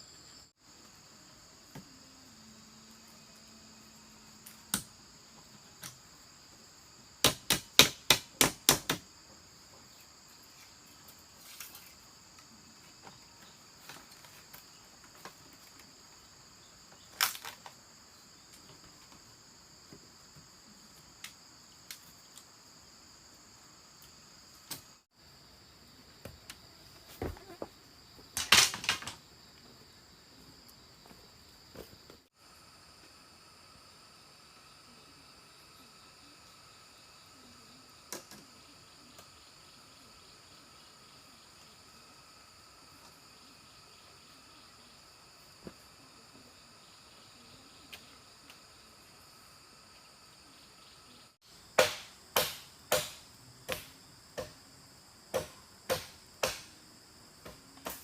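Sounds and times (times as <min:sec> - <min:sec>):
high insect chorus: 0:00.0 - 0:58.0.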